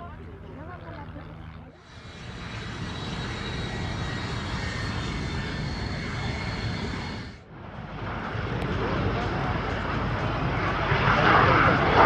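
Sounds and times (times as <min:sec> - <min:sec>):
jet engine rushing and whining: 0:00.0 - 0:12.0.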